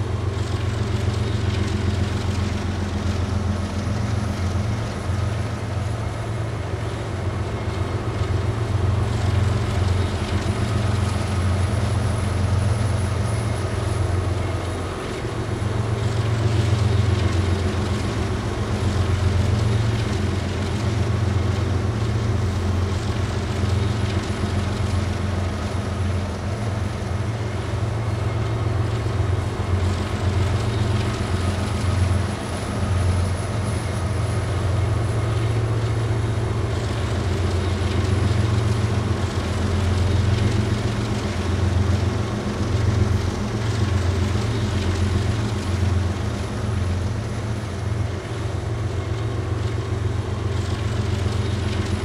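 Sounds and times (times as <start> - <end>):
diesel locomotive engine rumble: 0.0 - 52.0.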